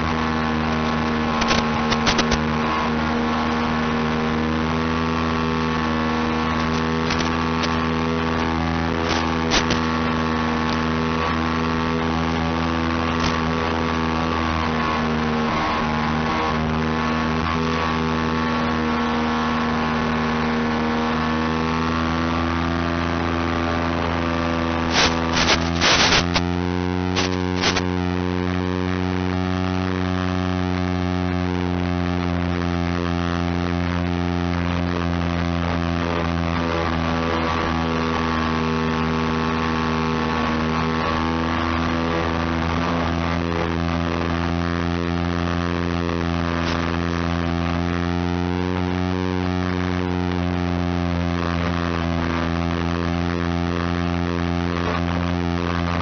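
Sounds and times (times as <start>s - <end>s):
rc plane motor and propeller droning: 0.0s - 56.0s
sharp crackles: 0.0s - 56.0s.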